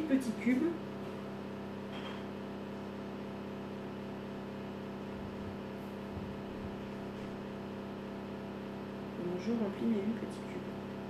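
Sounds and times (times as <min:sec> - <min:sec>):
appliance motor hum: 0:00.0 - 0:11.0.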